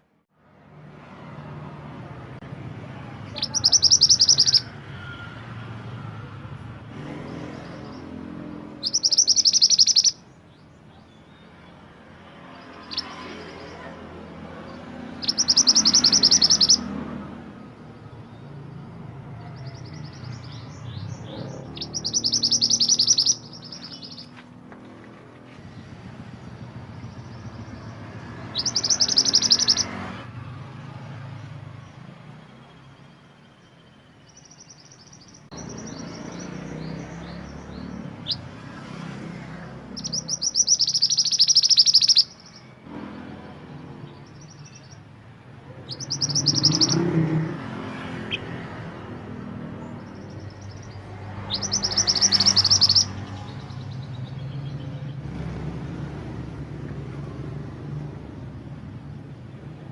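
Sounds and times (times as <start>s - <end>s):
songbird singing: 2.8s - 5.4s, 6.0s - 59.9s.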